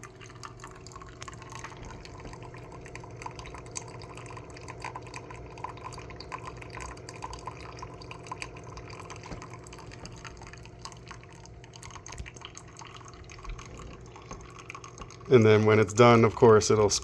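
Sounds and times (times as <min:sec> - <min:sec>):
coffee trickling into cup: 0:00.0 - 0:17.0
machine low hum: 0:00.0 - 0:17.0.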